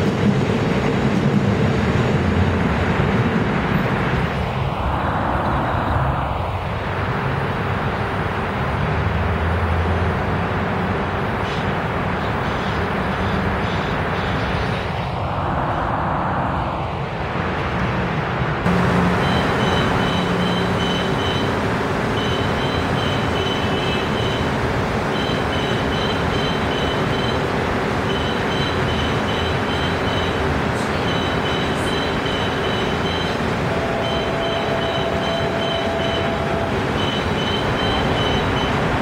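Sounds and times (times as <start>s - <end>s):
electric train rumbling on rails: 0.0s - 39.0s.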